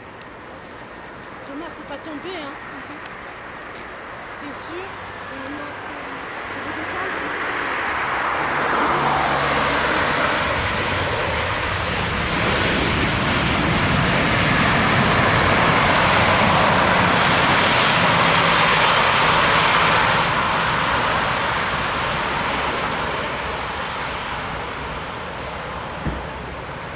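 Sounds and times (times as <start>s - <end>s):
airliner engines roaring: 0.0s - 26.9s.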